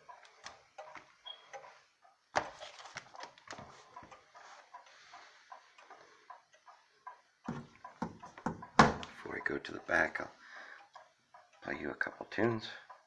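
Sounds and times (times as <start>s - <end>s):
clock ticking: 0.0s - 2.5s, 3.2s - 13.0s.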